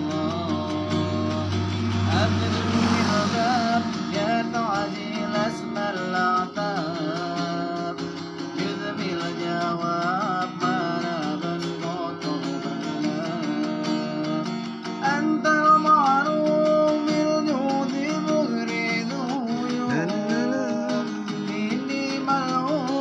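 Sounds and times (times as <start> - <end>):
acoustic guitar strumming: 0.0 - 23.0
man singing devotional song: 0.0 - 23.0.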